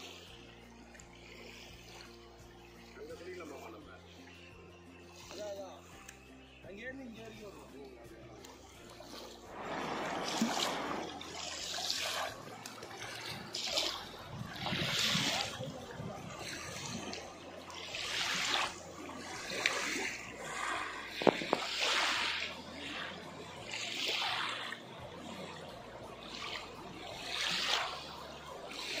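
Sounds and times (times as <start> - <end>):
waves lapping on a sandy bank: 0.0 - 29.0.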